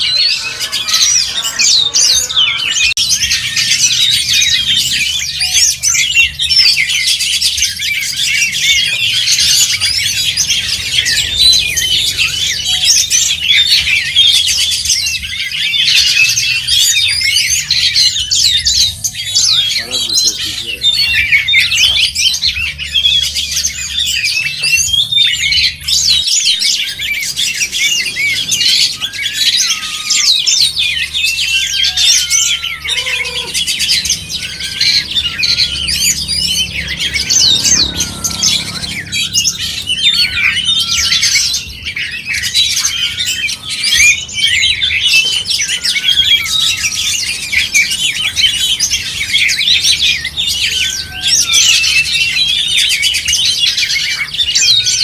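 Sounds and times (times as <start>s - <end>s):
songbirds whistling and trilling: 0.0s - 55.0s.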